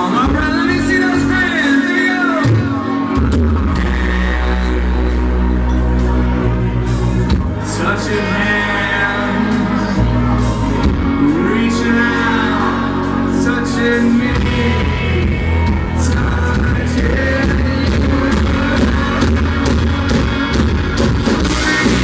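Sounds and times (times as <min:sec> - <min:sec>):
bass guitar: 0:00.0 - 0:22.0
drums: 0:00.0 - 0:22.0
person singing: 0:00.0 - 0:22.0.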